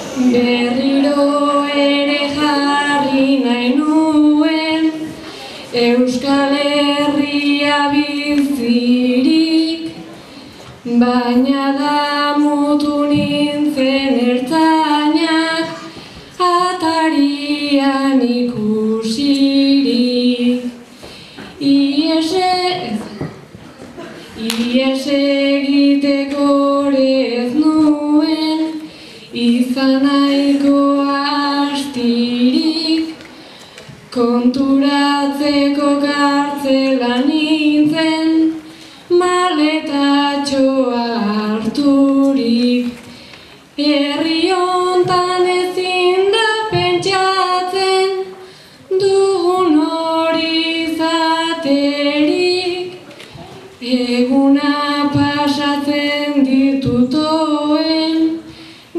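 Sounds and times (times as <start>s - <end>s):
girl singing unaccompanied: 0.0s - 20.9s, 21.5s - 23.6s, 24.3s - 58.6s.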